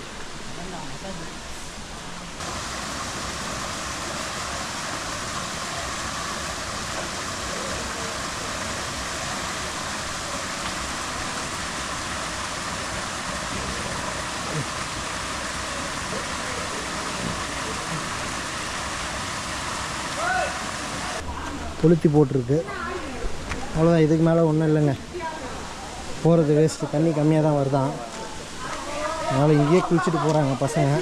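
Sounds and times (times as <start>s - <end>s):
waterfall running over rocks: 0.0s - 31.0s.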